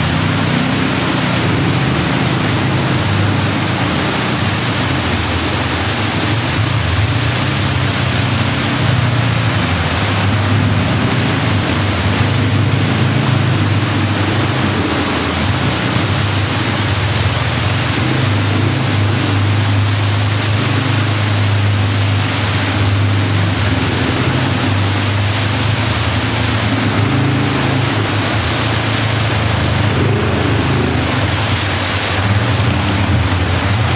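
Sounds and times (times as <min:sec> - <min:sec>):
atv engines running: 0:00.0 - 0:33.9
water splashing: 0:00.0 - 0:33.9.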